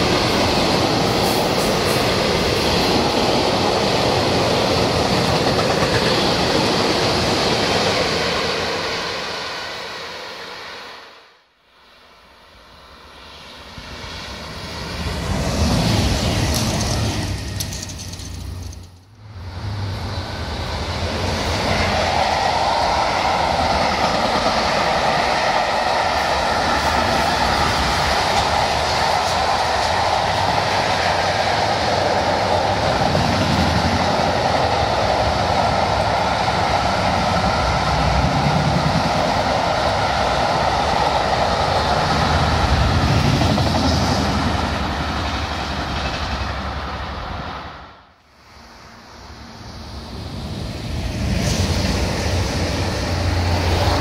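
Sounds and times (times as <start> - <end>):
train wheels rumbling on rails: 0.0 - 9.4, 13.6 - 47.9, 49.3 - 54.0.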